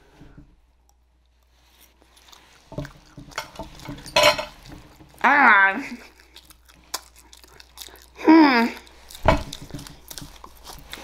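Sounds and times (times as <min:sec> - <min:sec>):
wet chewing and lip-smacking: 0:00.7 - 0:05.2, 0:06.0 - 0:11.0.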